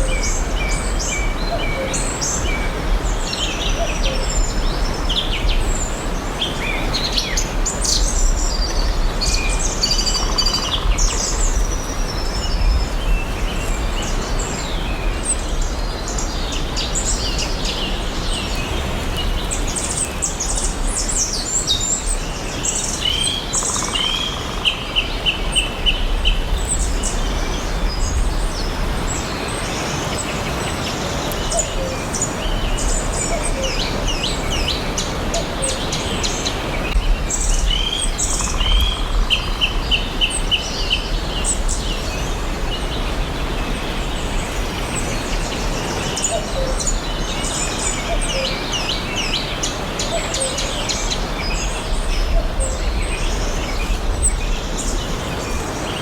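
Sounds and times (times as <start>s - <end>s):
forest birds chirping: 0.0s - 56.0s.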